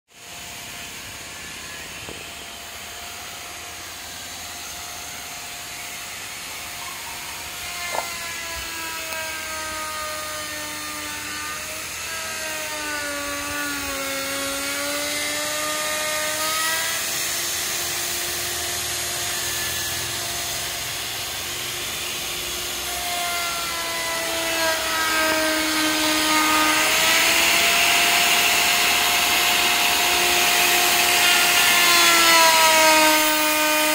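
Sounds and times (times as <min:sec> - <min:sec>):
electric router cutting wood: 0:00.1 - 0:33.9.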